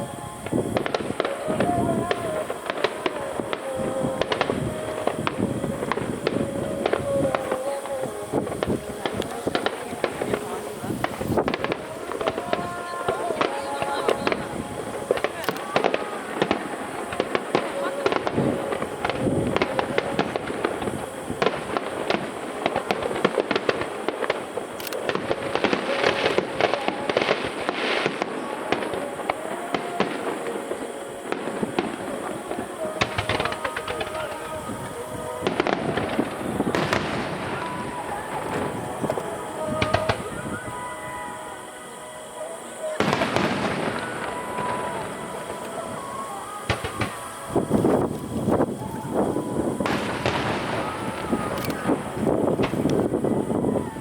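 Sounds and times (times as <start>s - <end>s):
fireworks cracking and popping: 0.0s - 54.0s.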